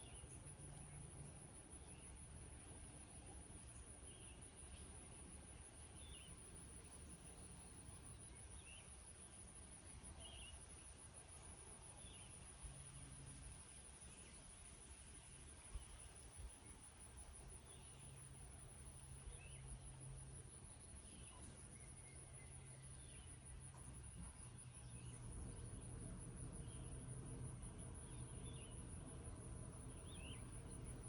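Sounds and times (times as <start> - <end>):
insects trilling: 0.0 - 14.4, 15.2 - 31.0.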